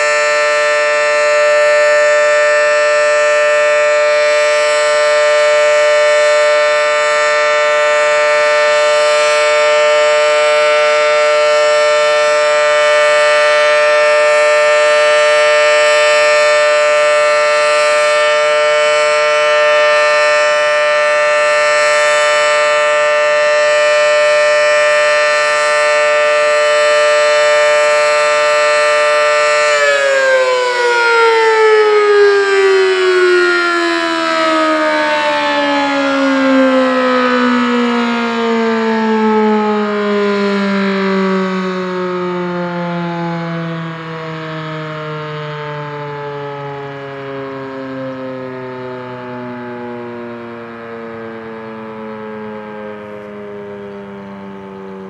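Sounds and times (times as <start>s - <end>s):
outdoor warning siren: 0.0s - 55.0s.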